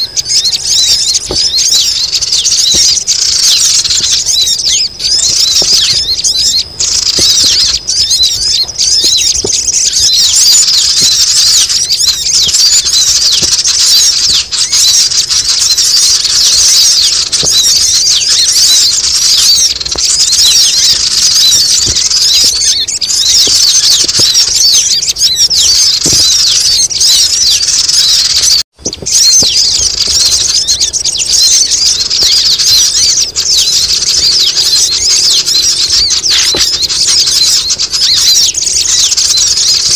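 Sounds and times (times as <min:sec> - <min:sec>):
birds chattering: 0:00.0 - 0:39.9.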